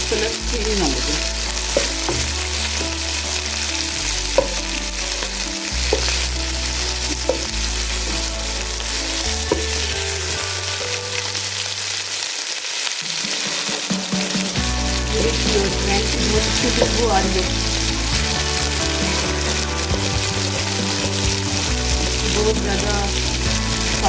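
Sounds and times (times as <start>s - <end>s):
chicken sizzling in oil: 0.0s - 24.0s.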